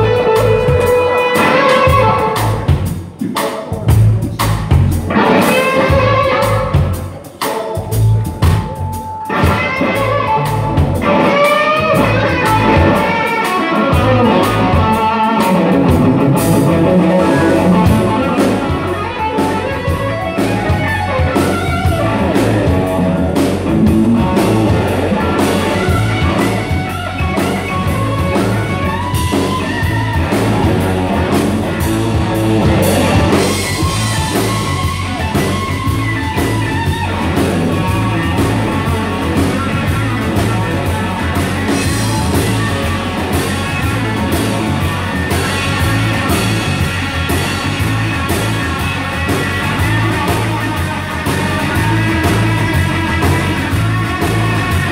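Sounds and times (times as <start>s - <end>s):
bass guitar: 0.0s - 54.9s
drums: 0.0s - 54.9s
electric guitar: 0.0s - 54.9s.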